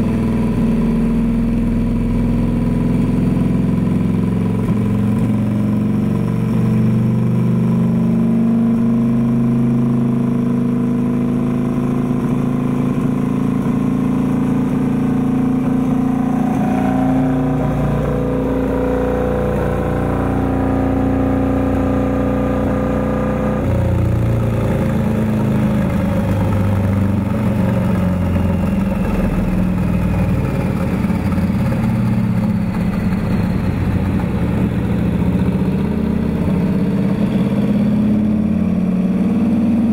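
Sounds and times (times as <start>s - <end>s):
motorcycle engine revving on dyno: 0.0s - 39.9s.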